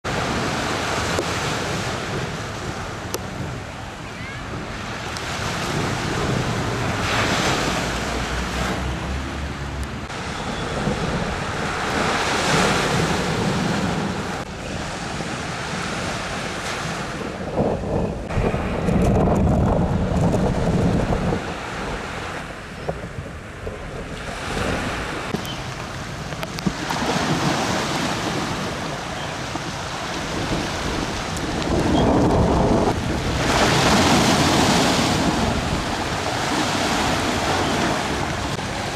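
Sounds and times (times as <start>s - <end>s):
waves breaking: 0.0s - 38.9s
wind buffeting microphone: 0.0s - 38.9s.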